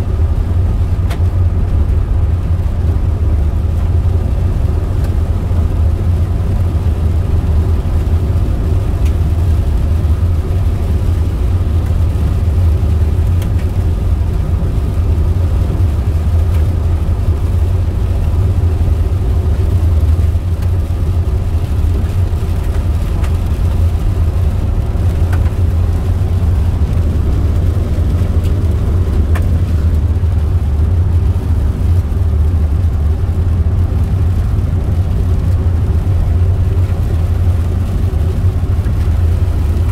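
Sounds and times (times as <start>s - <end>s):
car cabin road and engine drone: 0.0s - 39.9s.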